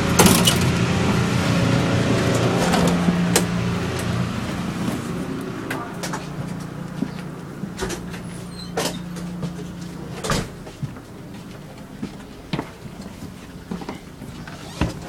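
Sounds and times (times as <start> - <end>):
train doors opening and closing: 0.0 - 11.2, 13.8 - 15.0
steady low hum: 0.0 - 15.0.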